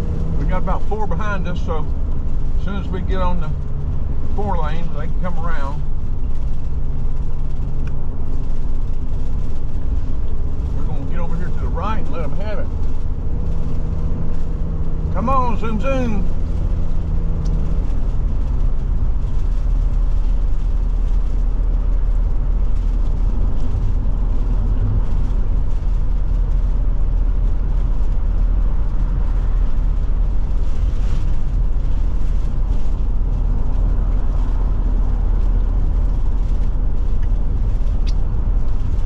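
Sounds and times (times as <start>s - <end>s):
motorhome engine droning: 0.0s - 39.0s
road rumble: 0.0s - 39.0s.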